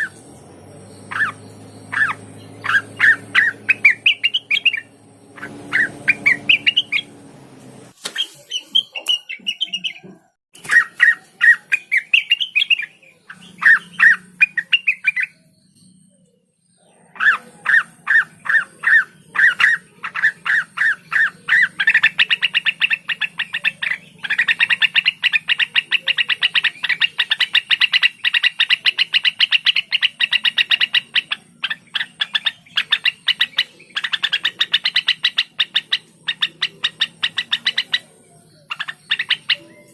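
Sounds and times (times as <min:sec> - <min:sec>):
bird singing chirping phrases: 0:00.0 - 0:39.9.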